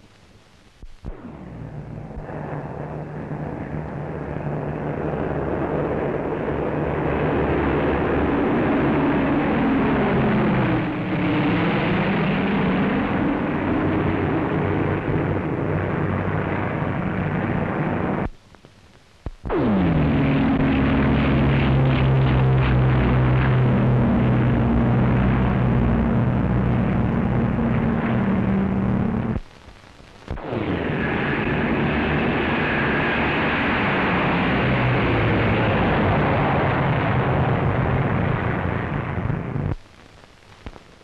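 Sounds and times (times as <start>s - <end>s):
plane engines taking off: 1.1s - 18.3s, 19.5s - 29.4s, 30.4s - 39.8s
propeller plane engines droning: 1.9s - 18.2s, 20.0s - 29.4s, 30.8s - 39.7s.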